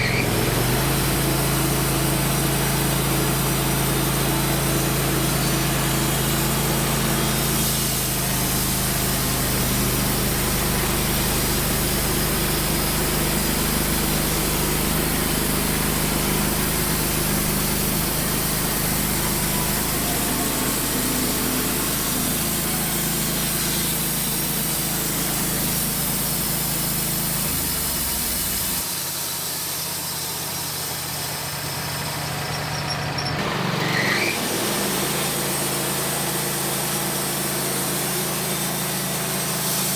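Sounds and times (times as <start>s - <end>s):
band blade sawing log: 0.0s - 32.3s, 33.1s - 39.9s
sawmill engine running: 0.0s - 39.9s.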